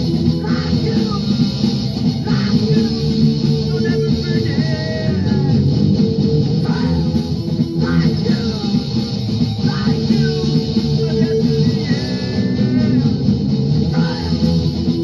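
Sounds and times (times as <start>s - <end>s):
punk band with electric guitar: 0.0s - 15.0s.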